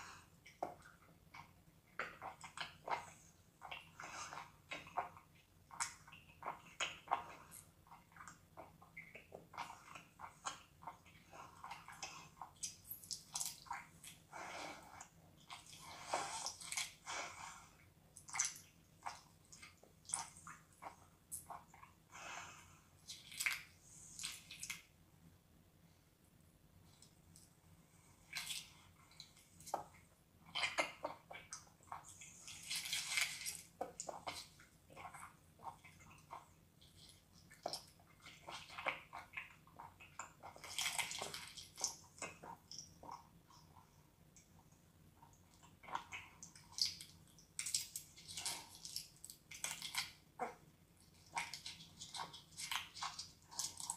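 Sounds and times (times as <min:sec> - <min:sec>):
wet slurping and chewing: 0:00.0 - 0:25.0, 0:26.8 - 0:53.9.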